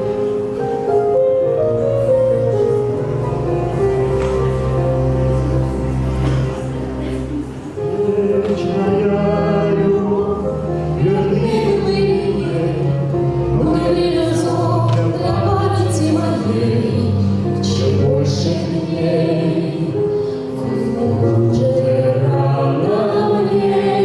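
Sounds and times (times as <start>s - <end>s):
choir singing sustained notes: 1.7s - 24.0s.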